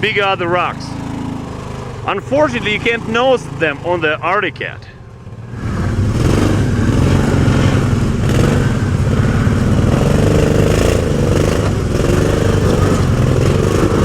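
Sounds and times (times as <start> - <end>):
utility vehicle engine revving: 0.0 - 14.0.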